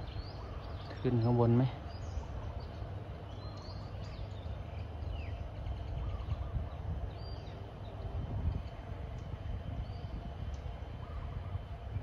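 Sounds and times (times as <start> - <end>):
faint bird chirps: 0.0 - 8.8, 10.9 - 12.0.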